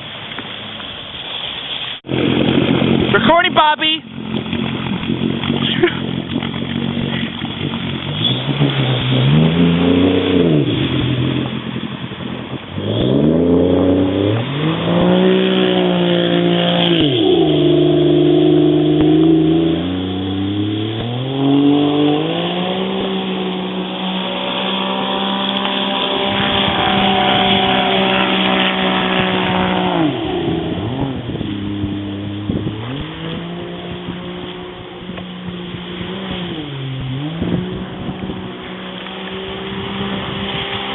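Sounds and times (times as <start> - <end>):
jet ski engine revving: 2.0 - 40.9.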